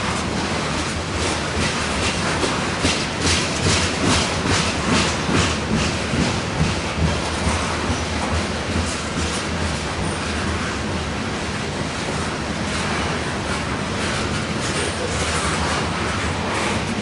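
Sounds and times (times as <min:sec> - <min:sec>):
freight train rolling rumble: 0:00.0 - 0:17.0
train wheels clacking over rail joints: 0:00.0 - 0:17.0.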